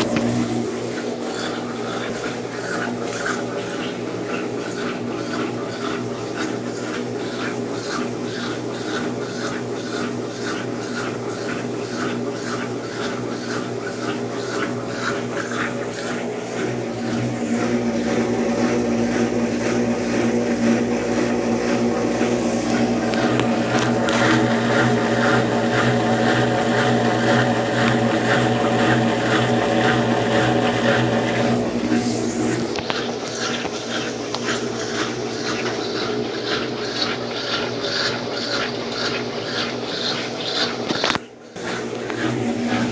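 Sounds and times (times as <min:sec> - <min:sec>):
washing machine spinning: 0:00.0 - 0:42.9.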